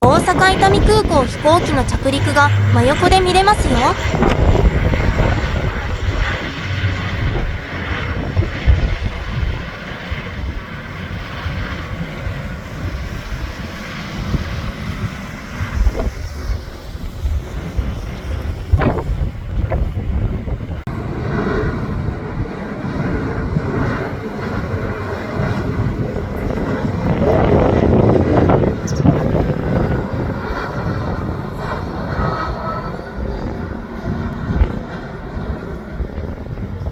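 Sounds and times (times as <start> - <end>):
jet airliner engine noise: 0.0 - 36.9
wind buffeting microphone: 0.0 - 36.9.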